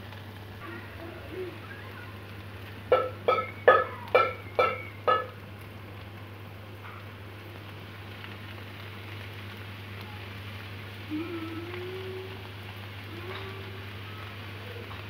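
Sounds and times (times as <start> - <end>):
okra sizzling in oil: 0.0 - 15.0.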